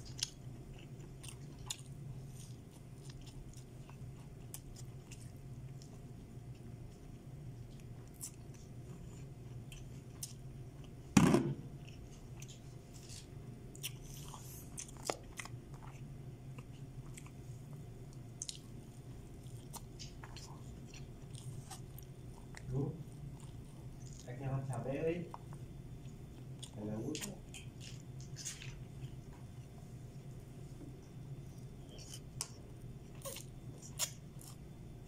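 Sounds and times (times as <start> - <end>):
man chewing food: 0.0 - 24.4, 25.3 - 35.0.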